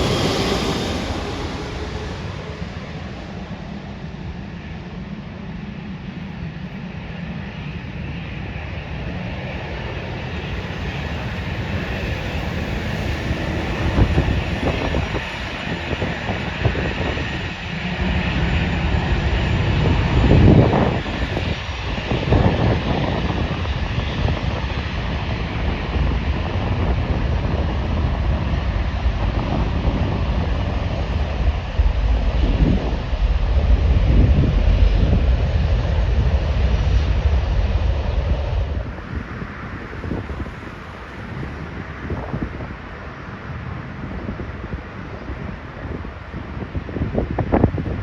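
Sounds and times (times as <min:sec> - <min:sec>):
wind buffeting microphone: 0:00.0 - 0:05.4, 0:08.0 - 0:48.0
jet engines rumbling and whining: 0:00.0 - 0:48.0.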